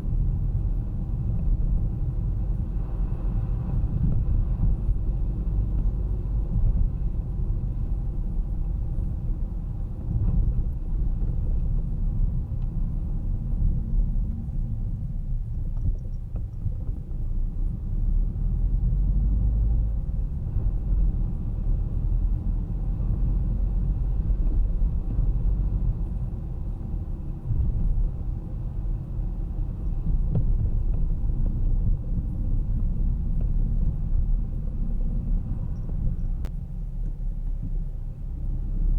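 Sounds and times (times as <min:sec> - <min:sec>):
car engine rumble: 0:00.0 - 0:38.9
tyre-on-road noise: 0:00.0 - 0:38.9.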